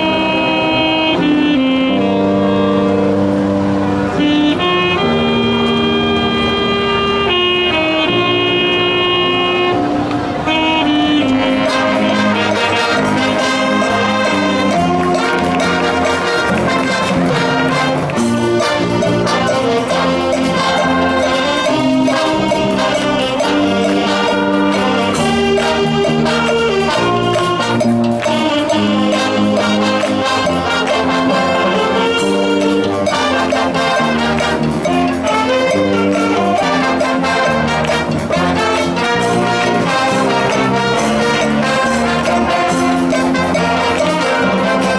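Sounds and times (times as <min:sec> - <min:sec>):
brass band playing: 0:00.0 - 0:44.9.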